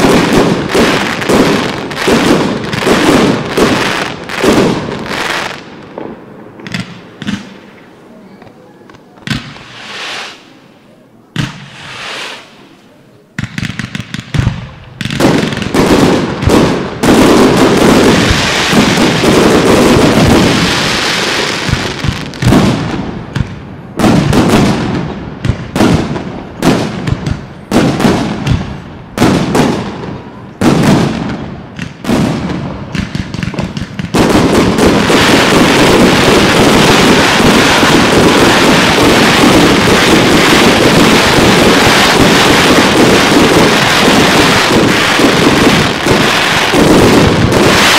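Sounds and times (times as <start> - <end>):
fireworks bursts echoing: 0.0 - 8.0, 8.8 - 10.6, 11.3 - 12.8, 13.4 - 47.9.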